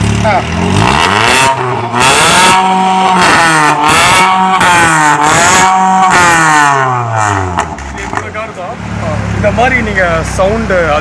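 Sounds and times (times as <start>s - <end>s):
car engine revving loud exhaust: 0.0s - 11.0s.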